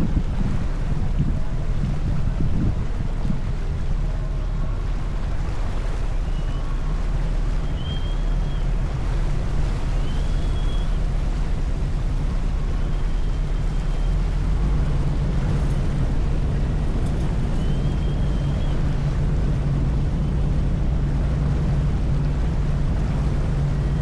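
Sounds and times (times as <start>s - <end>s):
ferry engines droning: 0.0s - 24.0s
water rushing along hull: 0.0s - 24.0s
wind on microphone: 0.0s - 24.0s.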